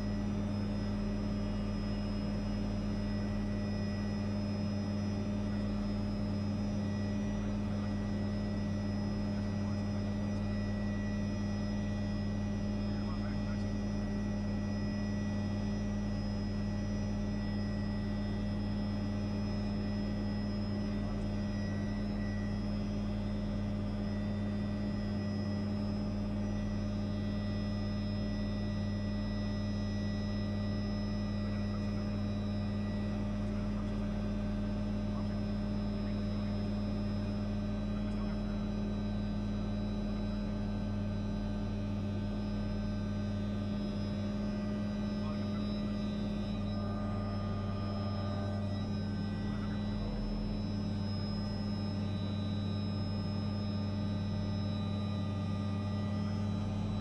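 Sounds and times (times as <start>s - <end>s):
helicopter drone inside cabin: 0.0s - 57.0s
thin high whine: 0.0s - 57.0s.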